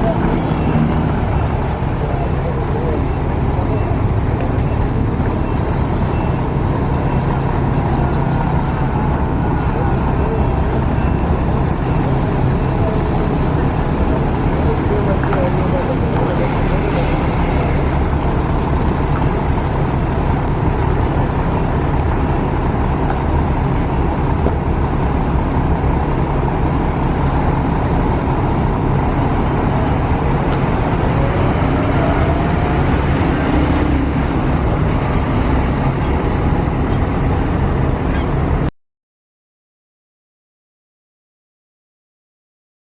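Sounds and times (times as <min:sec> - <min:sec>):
coach engine drone: 0:00.0 - 0:38.7
road noise: 0:00.0 - 0:38.7.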